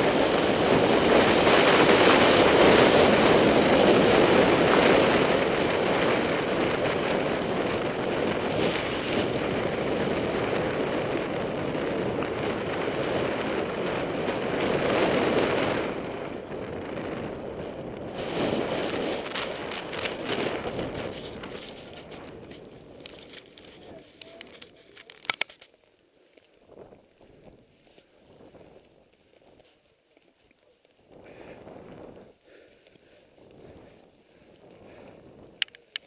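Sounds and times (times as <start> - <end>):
wind rushing over microphone: 0.0 - 25.4, 26.6 - 29.6, 31.0 - 36.0.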